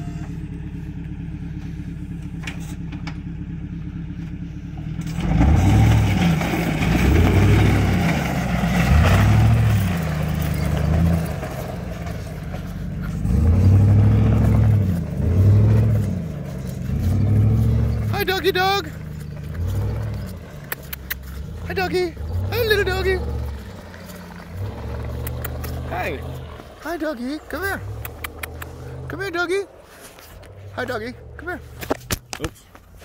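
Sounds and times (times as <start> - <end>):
vehicle engine idling and revving: 0.0 - 33.0.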